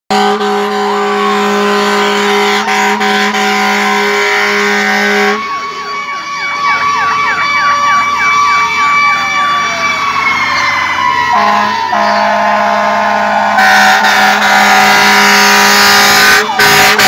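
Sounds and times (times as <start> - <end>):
blaring warning tone: 0.1 - 17.0
yelp siren: 0.4 - 17.0.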